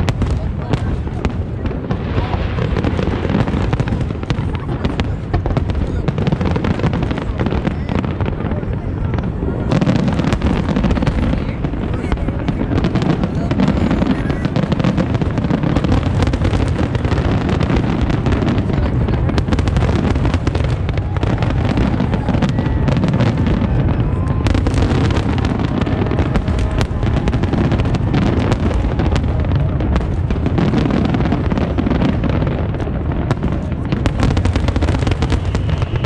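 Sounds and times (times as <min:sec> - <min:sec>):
fireworks booming: 0:00.0 - 0:36.0
fireworks crackling: 0:00.0 - 0:36.0.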